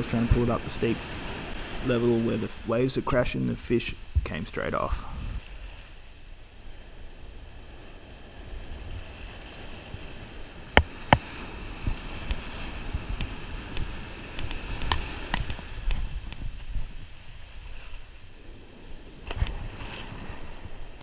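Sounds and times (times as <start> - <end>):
surf washing on sand: 0.0 - 21.0
wind rumbling on microphone: 0.0 - 21.0.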